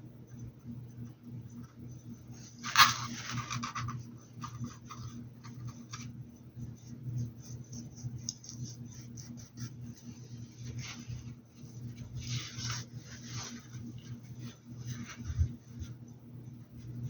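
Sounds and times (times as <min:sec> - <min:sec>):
steady low hum: 0:00.0 - 0:17.0
scratchy rubbing on a hat: 0:02.2 - 0:16.0.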